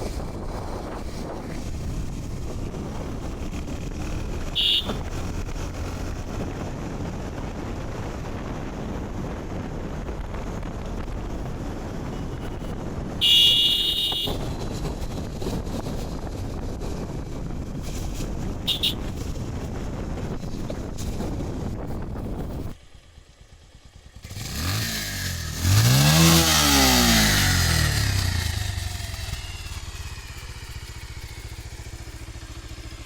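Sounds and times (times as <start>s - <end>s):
wind rushing over microphone: 0.0s - 22.9s, 24.2s - 33.0s
motorcycle engine running: 0.0s - 33.0s.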